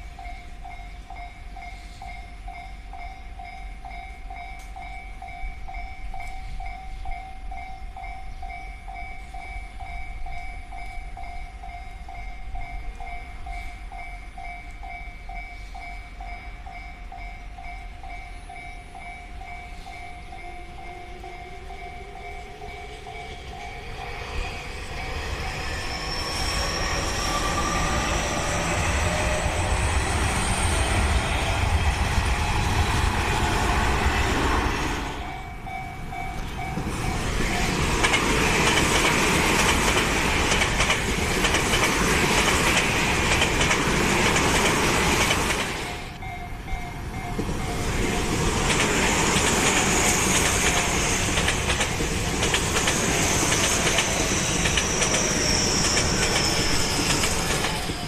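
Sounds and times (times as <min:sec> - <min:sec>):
trains passing with clattering wheels: 0:00.0 - 0:58.0.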